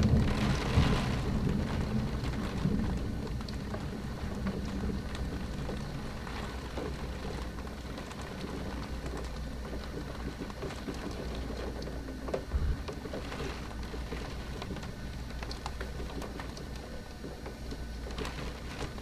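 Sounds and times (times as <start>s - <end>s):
rain pattering on window: 0.0s - 19.0s
thunder rumble: 0.0s - 19.0s.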